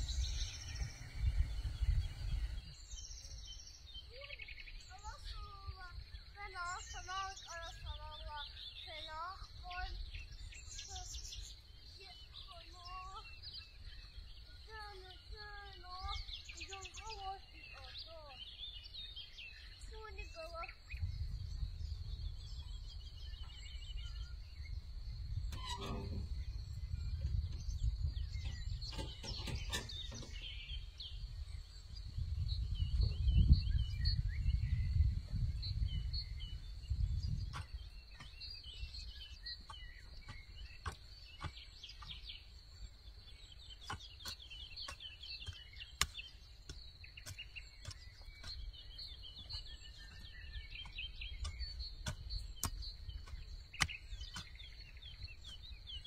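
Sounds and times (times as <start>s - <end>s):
small birds chirping: 0.0s - 56.0s
wind rumbling on microphone: 0.0s - 56.0s.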